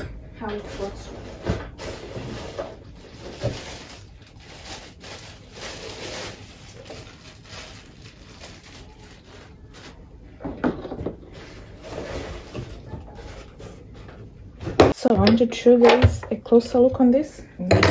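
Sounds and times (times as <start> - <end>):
cardboard and plastic packaging rustling: 0.3 - 15.0.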